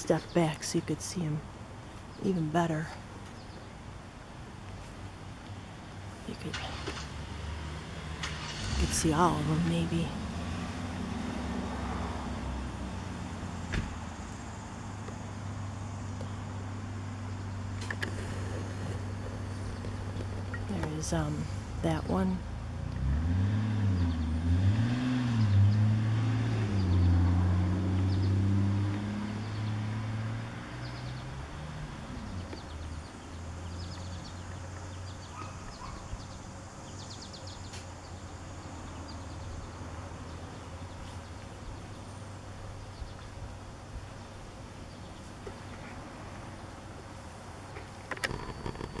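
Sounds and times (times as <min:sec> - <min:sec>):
low traffic hum: 0:00.0 - 0:49.0
motor vehicle passing: 0:04.7 - 0:49.0.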